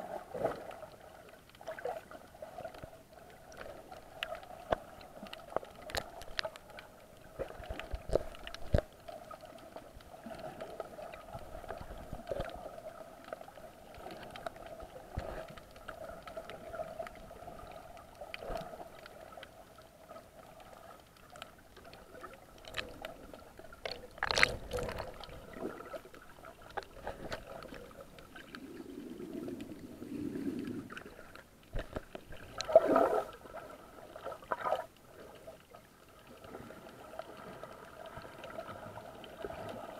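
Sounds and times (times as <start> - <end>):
faint underwater hum: 0.0 - 39.9
low gurgle: 0.0 - 39.9
underwater rush: 0.0 - 39.9.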